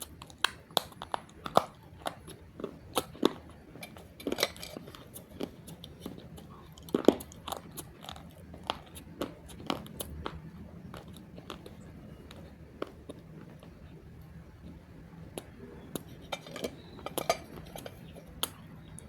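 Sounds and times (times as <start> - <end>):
crunching and chewing clay: 0.0 - 19.0.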